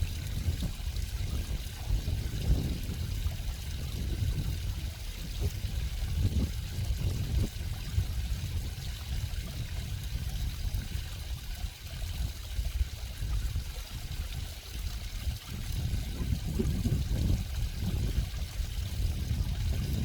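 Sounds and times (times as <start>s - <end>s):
low uneven rumble: 0.0s - 20.0s
water flowing and trickling: 0.0s - 20.0s.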